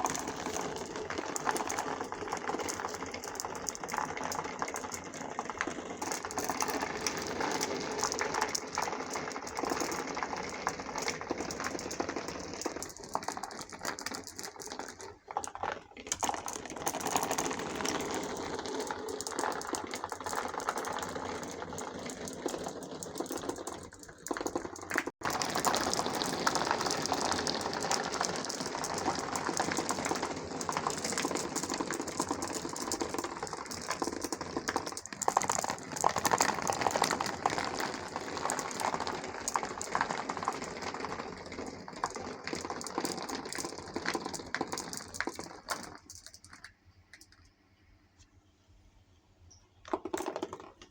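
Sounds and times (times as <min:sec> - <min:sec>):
marbles rolling and clattering: 0:00.0 - 0:47.6, 0:49.8 - 0:50.9.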